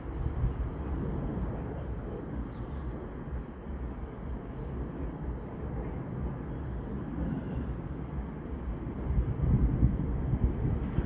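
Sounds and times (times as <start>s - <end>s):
distant background noise: 0.0s - 11.0s
low rumble of wind: 0.0s - 11.0s.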